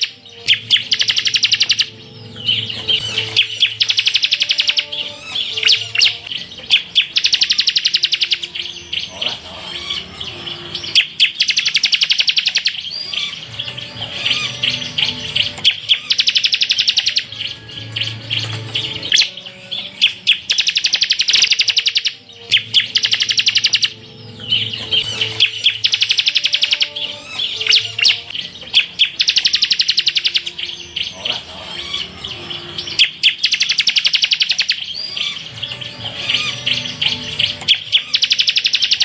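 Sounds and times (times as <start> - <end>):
bird rapid trills: 0.0 - 1.9, 2.9 - 9.2, 10.8 - 24.0, 24.6 - 32.0, 32.8 - 35.5, 36.1 - 39.0
high bird chirps: 0.0 - 39.0.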